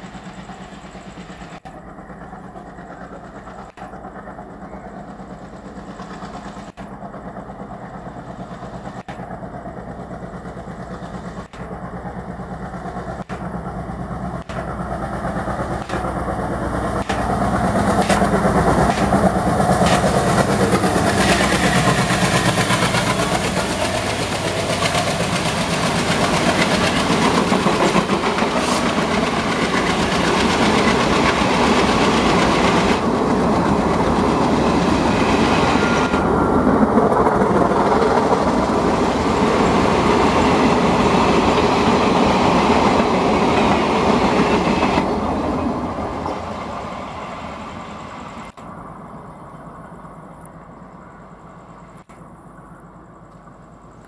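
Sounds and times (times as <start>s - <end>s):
train coaches clickety-clack: 0.0s - 48.6s
diesel locomotive passing: 0.0s - 54.0s.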